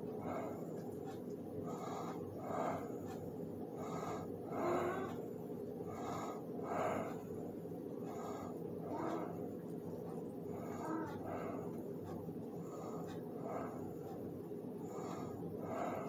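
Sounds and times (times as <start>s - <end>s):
close breathing: 0.0s - 16.0s
steady low hum: 0.0s - 16.0s.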